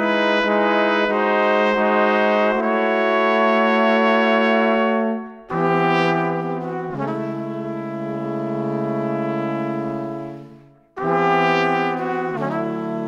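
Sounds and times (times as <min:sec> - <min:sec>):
brass instruments holding chords: 0:00.0 - 0:13.0.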